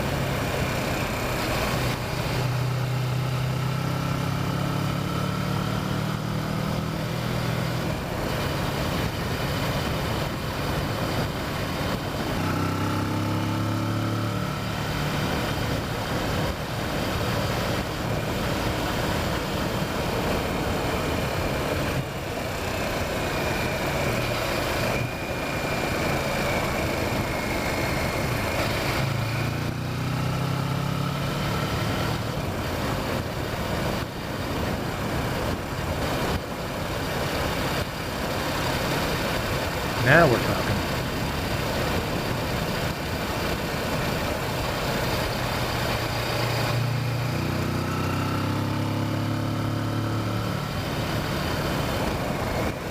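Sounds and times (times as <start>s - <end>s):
motorcycle engine running: 0.0s - 52.9s
road noise: 0.0s - 52.9s.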